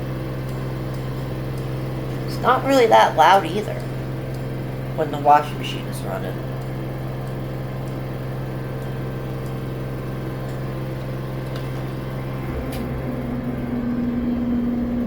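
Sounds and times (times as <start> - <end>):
clothes dryer humming: 0.0 - 15.0.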